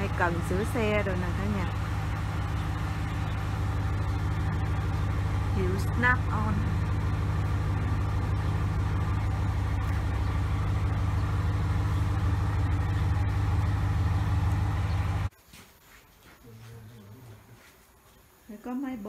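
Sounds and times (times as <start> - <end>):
air compressor humming: 0.0 - 15.3.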